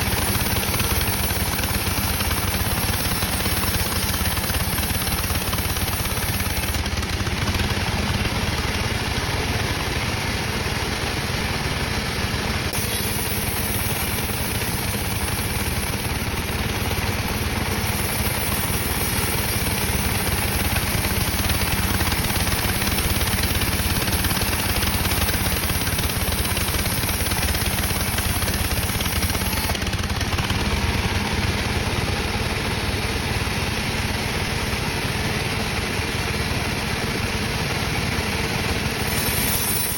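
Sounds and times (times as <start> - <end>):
sawmill machinery drone and hiss: 0.0 - 39.9.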